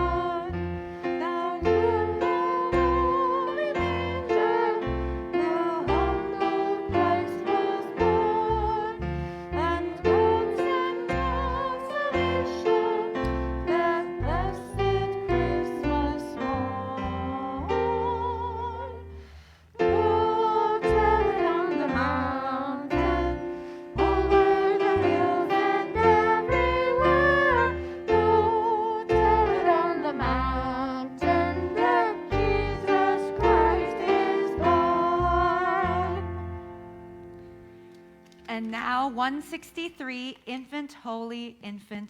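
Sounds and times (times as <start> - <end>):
person singing a hymn with vibrato: 0.0 - 36.8
piano chords: 0.0 - 38.7.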